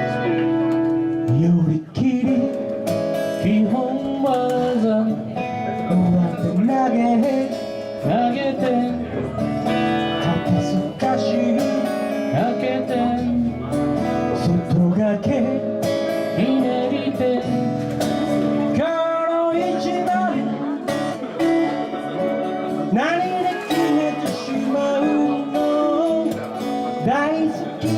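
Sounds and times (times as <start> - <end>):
person singing: 0.0 - 27.9
strummed acoustic guitar: 0.0 - 27.9.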